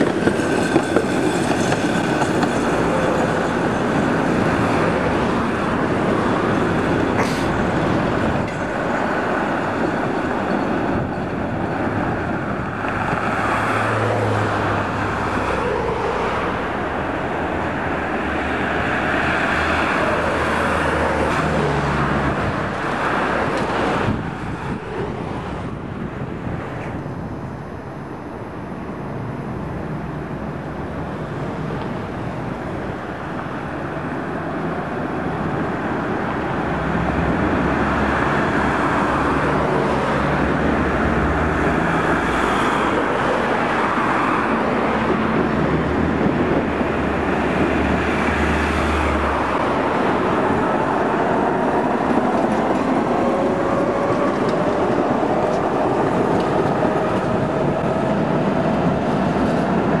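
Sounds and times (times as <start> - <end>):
road traffic: 0.0 - 60.0
tram rising whine: 0.0 - 60.0
tram wheels rumbling on rail: 0.0 - 60.0.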